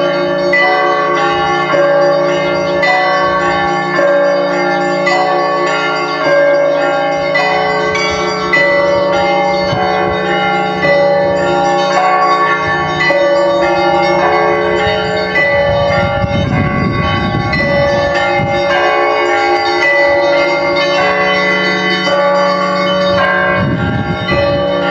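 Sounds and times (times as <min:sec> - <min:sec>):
church bells pealing: 0:00.0 - 0:24.9.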